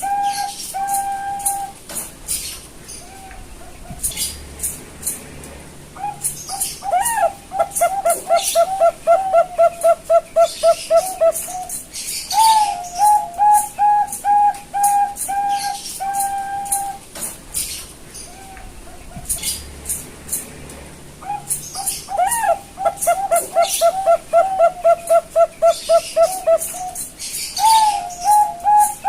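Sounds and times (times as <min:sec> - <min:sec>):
dove cooing: 0:00.0 - 0:04.7, 0:06.0 - 0:19.6, 0:21.2 - 0:29.0.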